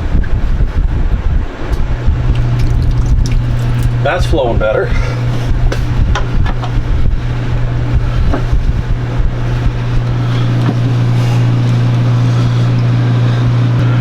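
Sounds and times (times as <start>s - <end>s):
pump humming: 0.0s - 14.0s.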